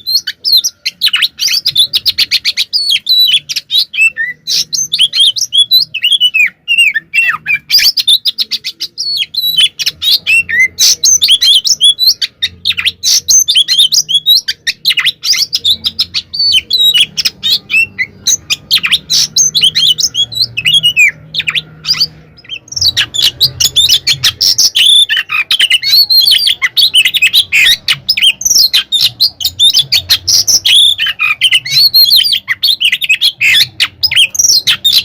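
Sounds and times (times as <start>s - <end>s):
bird singing chirps and trills: 0.0s - 35.0s.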